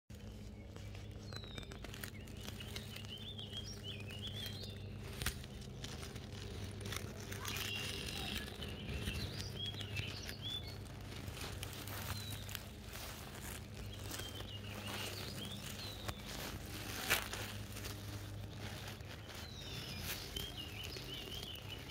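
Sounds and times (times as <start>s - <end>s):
dry grass and leaves rustling: 0.1s - 21.9s
low steady hum: 0.1s - 21.9s
small birds chirping: 0.1s - 21.9s.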